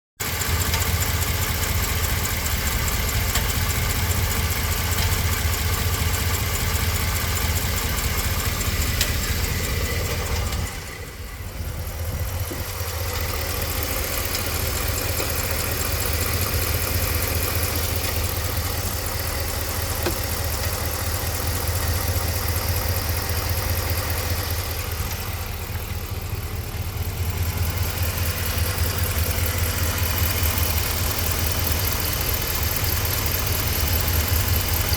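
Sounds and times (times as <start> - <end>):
engine idling: 0.2 - 34.9
engine ticking: 0.2 - 34.9.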